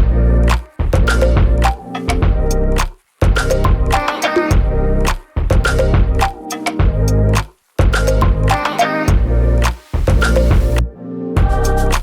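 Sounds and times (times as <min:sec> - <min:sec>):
electronic music with bass and drums: 0:00.0 - 0:12.0.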